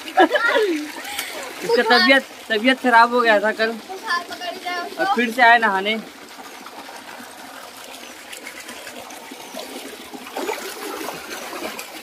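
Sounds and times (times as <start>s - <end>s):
running water trickling: 0.0s - 12.0s.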